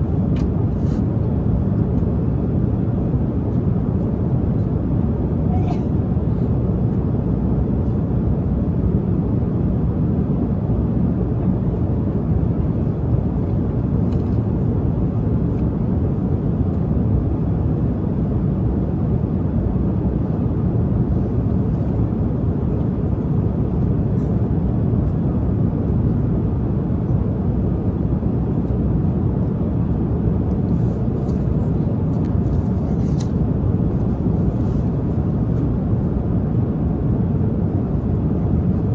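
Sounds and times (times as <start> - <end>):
jet engine and airflow rumble: 0.0 - 38.9.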